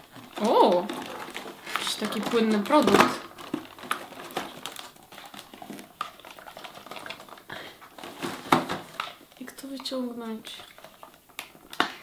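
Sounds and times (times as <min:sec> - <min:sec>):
cardboard drawers clicking and rustling: 0:00.0 - 0:12.0.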